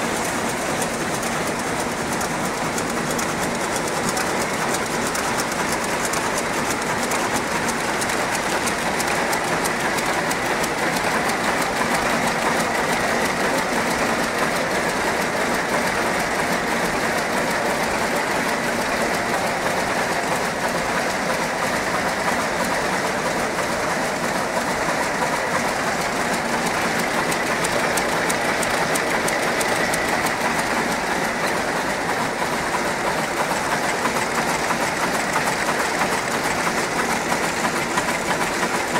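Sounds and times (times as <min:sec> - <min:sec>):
loom clattering: 0:00.0 - 0:38.9.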